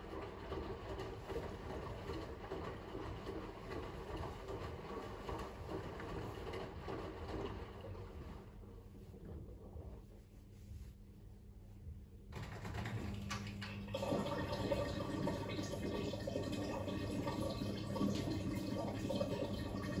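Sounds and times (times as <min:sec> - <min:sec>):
water rushing through drain pump: 0:00.0 - 0:08.6, 0:12.4 - 0:20.0.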